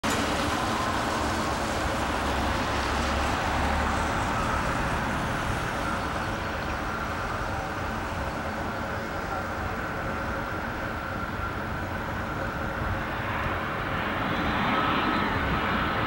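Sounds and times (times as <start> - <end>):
jet engines droning: 0.0 - 16.0.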